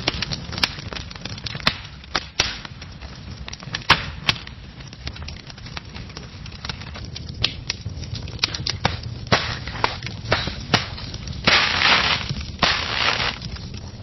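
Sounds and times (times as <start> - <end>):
fire crackling: 0.0 - 14.0
hissing crackle bursts: 0.0 - 14.0.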